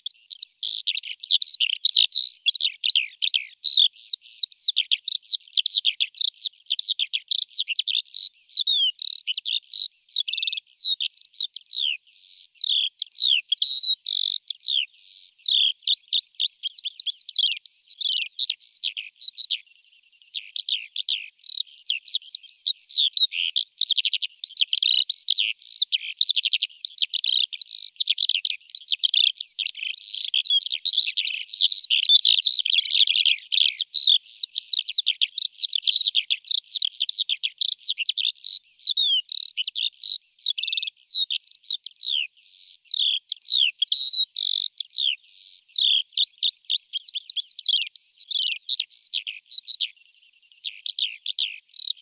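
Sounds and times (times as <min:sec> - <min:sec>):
skylark warbling song: 0:00.0 - 0:52.0.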